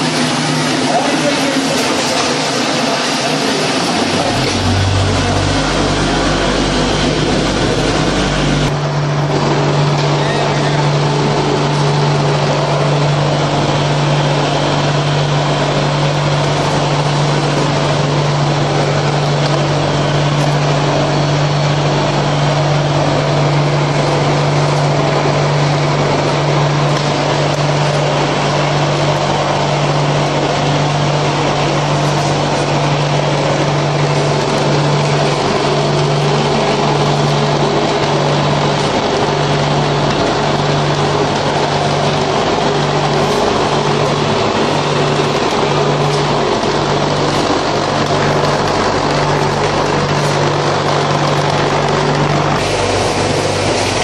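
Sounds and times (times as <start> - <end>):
vibrating table humming: 0.0 - 54.0.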